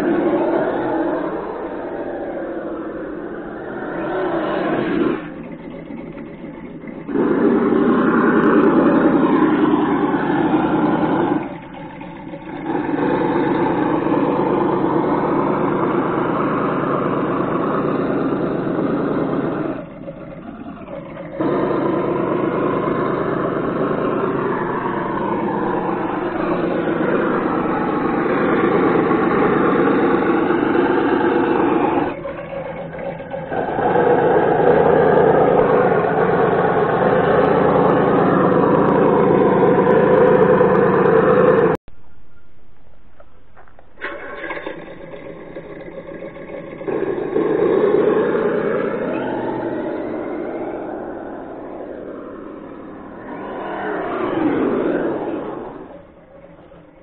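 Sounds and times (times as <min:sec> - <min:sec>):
simulated engine revving: 0:00.0 - 0:41.8, 0:43.9 - 0:57.0.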